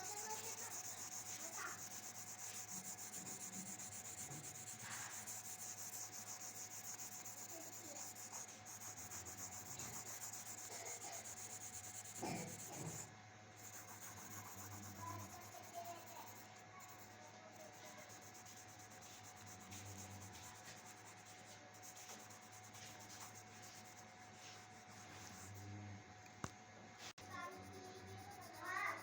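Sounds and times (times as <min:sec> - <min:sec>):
drawing tool rubbing on paper: 0:00.0 - 0:25.7, 0:27.2 - 0:29.0.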